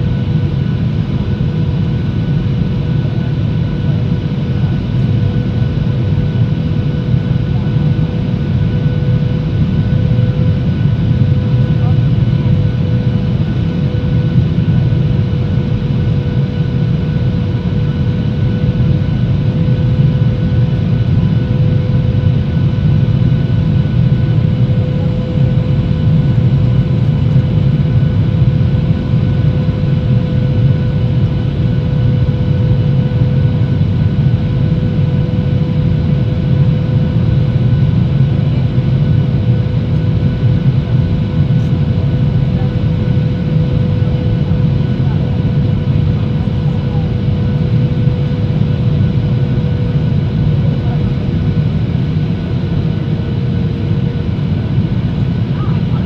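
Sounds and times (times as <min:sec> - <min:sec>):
airplane cabin engine drone: 0:00.0 - 0:56.0.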